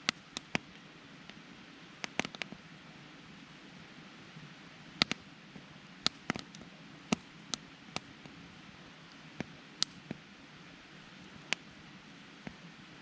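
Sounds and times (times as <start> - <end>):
campfire crackling and popping: 0.0 - 3.9, 4.9 - 13.0
soft steady hiss: 0.0 - 13.0.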